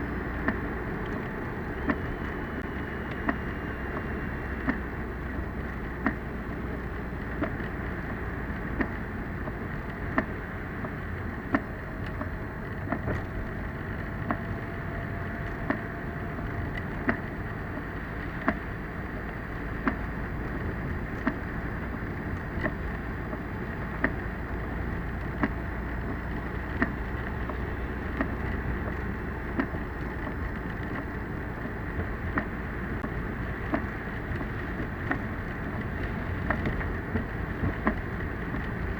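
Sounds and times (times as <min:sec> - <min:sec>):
rain on car: 0:00.0 - 0:38.9
road noise inside moving car: 0:00.0 - 0:38.9
windshield wipers knocking: 0:00.1 - 0:38.9.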